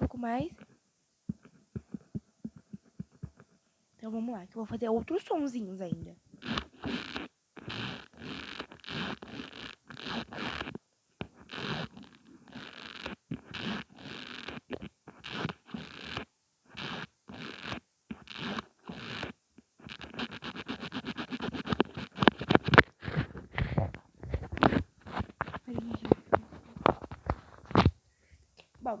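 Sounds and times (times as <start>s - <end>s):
mascara wand scratchy strokes: 4.1s - 27.9s.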